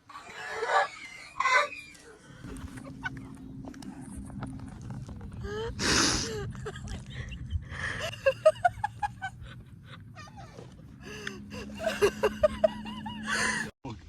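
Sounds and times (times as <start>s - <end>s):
seagulls calling: 0.0s - 13.7s
rush of noise: 2.3s - 13.6s.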